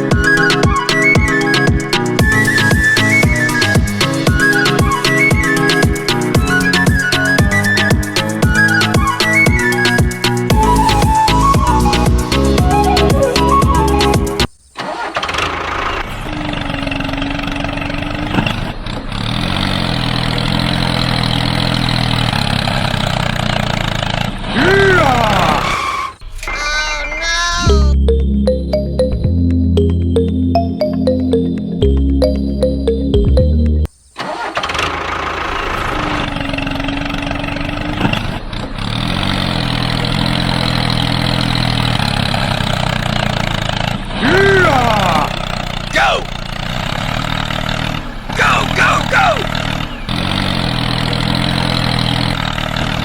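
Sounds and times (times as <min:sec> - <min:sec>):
engine running: 0:00.0 - 0:26.4, 0:27.7 - 0:53.0.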